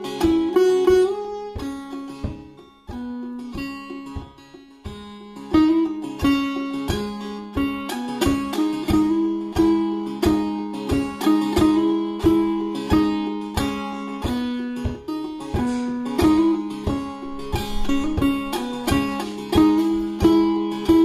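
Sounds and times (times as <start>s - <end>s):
plucked lute strings with drone: 0.0s - 21.0s.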